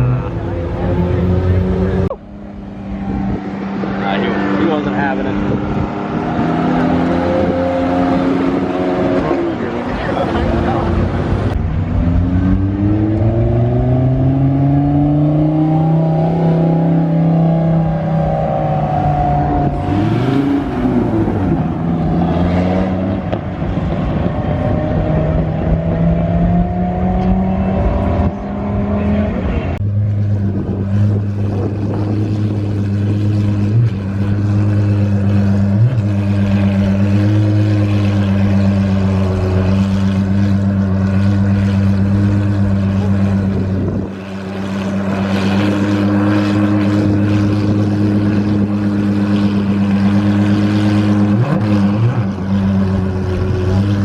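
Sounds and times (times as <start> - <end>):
engine running at steady revs: 0.0 - 54.0.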